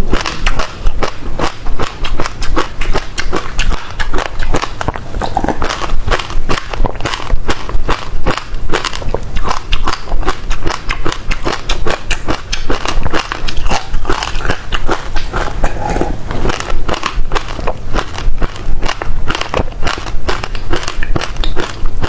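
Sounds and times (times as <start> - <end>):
chewing crunchy seeds: 0.0 - 22.0.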